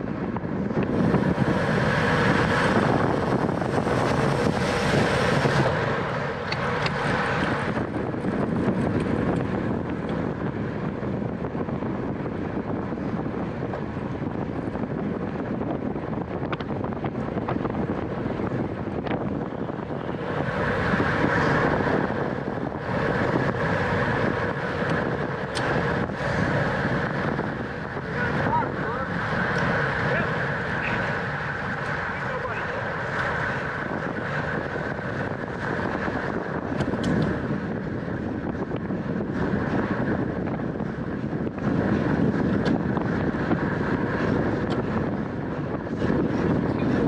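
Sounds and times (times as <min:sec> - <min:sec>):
tyre and road noise: 0:00.0 - 0:47.0
wind rushing over microphone: 0:00.0 - 0:47.0.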